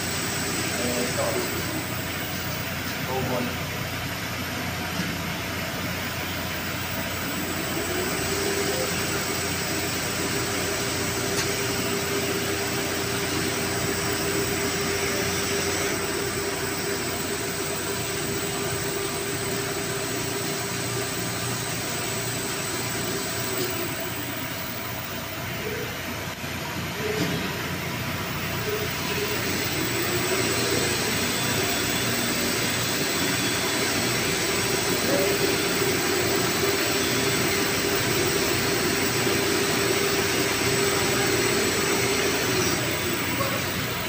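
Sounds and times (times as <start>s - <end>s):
diesel engine running with whine: 0.0s - 44.0s.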